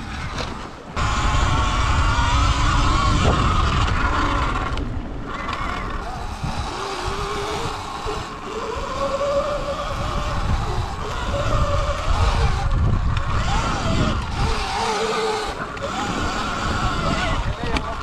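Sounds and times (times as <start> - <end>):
electric motor whining: 0.0 - 18.0
wind rumble on microphone: 0.0 - 18.0.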